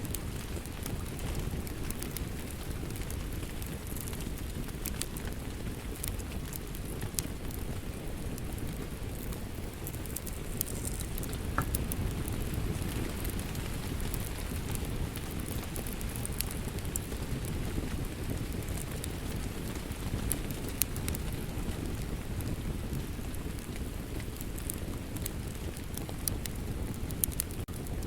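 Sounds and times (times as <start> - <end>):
steady rain: 0.0 - 28.0
wood fire crackling and popping: 0.0 - 28.0.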